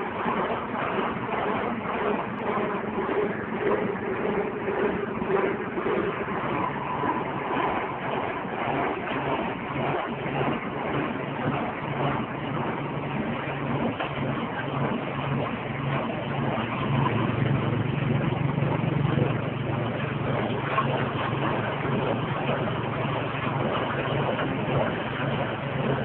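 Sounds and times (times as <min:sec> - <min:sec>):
engine hum: 0:00.0 - 0:26.0
mill grinding: 0:00.0 - 0:26.0.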